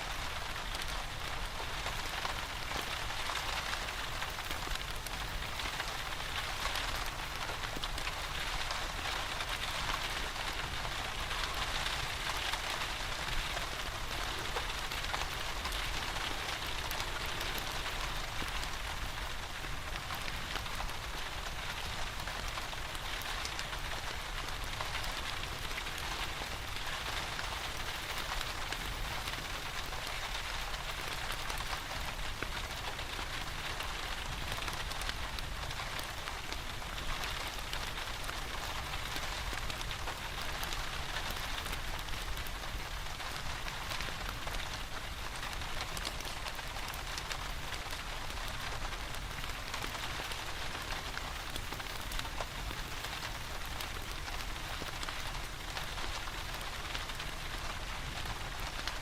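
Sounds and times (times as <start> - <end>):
steady rain falling: 0.0 - 59.0
wood fire crackling: 0.1 - 59.0.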